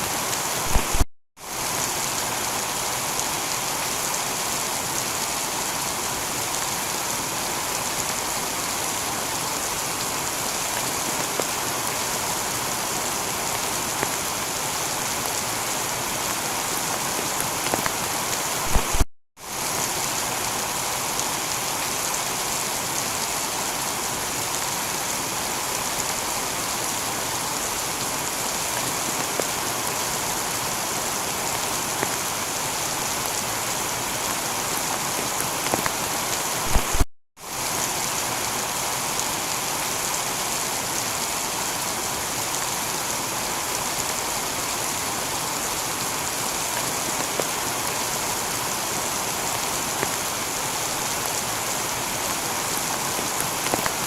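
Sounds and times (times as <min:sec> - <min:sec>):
heavy rain on a tiled roof: 0:00.0 - 0:54.0.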